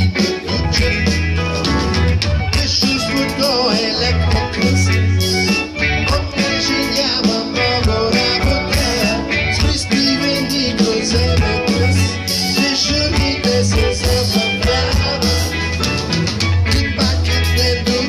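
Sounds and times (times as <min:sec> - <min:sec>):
person singing: 0:00.0 - 0:16.0, 0:16.7 - 0:18.0
rock band playing live: 0:00.0 - 0:18.0.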